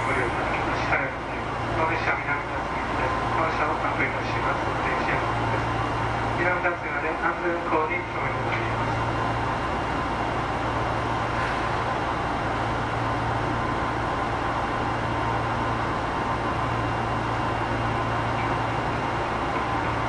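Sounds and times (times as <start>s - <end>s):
subway train hum and rumble: 0.0s - 20.0s.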